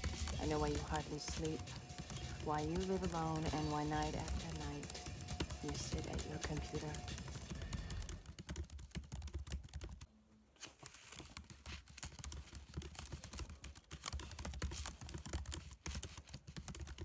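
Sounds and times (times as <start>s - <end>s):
fast keyboard typing: 0.0s - 10.1s, 10.8s - 17.0s.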